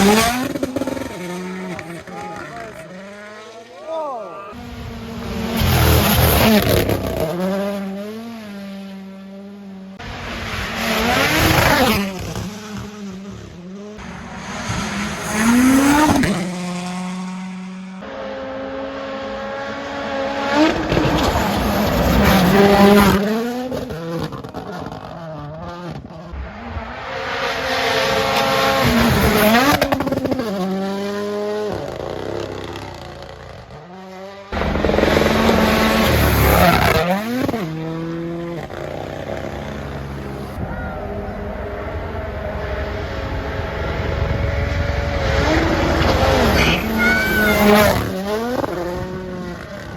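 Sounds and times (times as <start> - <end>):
engines revving through gears: 0.0 - 3.7, 4.5 - 49.9
rally cars passing at full throttle: 0.0 - 49.9.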